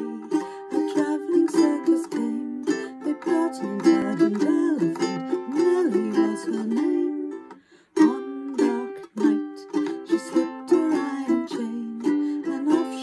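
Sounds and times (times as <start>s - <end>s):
ukulele strumming chords: 0.0s - 13.0s
woman singing: 0.0s - 13.0s.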